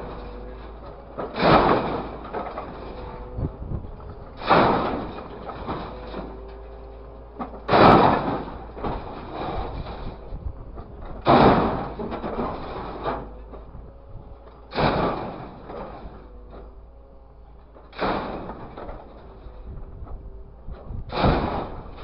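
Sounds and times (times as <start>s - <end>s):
scrap metal crashing into truck bed: 0.0s - 10.4s, 11.0s - 13.7s, 14.5s - 16.7s, 17.7s - 19.7s, 20.7s - 22.0s.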